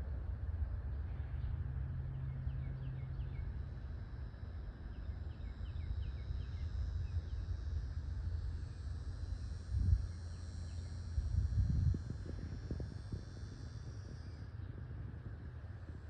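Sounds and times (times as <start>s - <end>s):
faint high buzz: 0.0s - 16.0s
steady low rumble: 0.0s - 16.0s.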